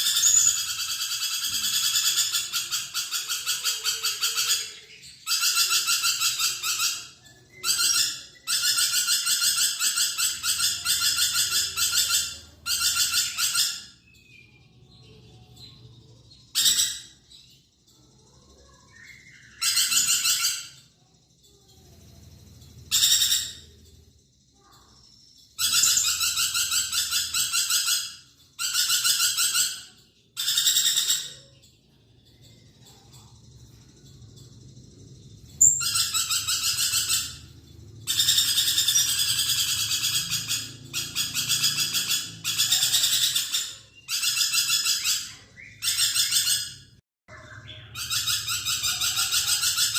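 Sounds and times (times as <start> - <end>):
lorikeet screechy chatter: 0.0 - 49.9.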